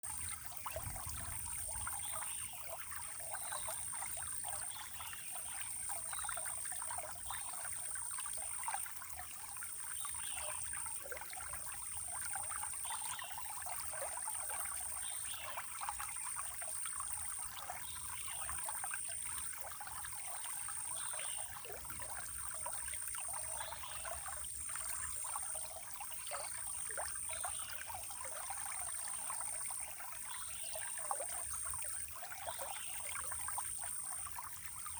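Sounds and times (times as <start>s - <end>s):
water trickling over stones: 0.0s - 34.9s.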